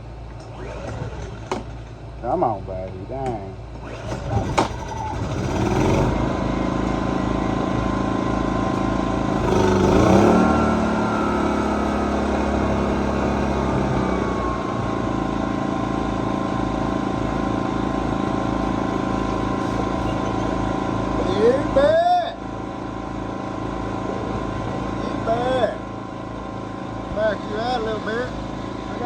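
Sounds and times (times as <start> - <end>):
generator engine running: 0.0 - 29.0.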